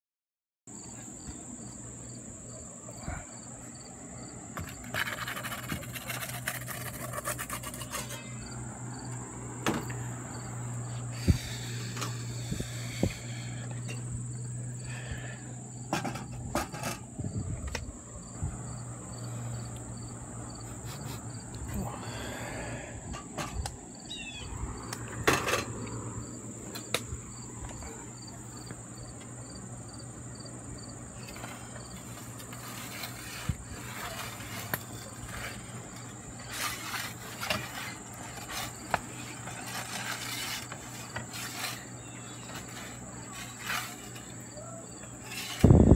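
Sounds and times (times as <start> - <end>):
insects droning: 0.7 - 45.9
pulsing insect chirp: 0.8 - 45.9.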